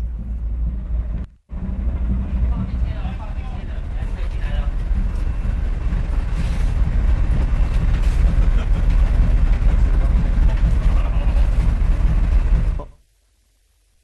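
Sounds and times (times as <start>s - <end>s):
wind on ship deck: 0.0s - 12.8s
ship noise: 0.0s - 13.0s.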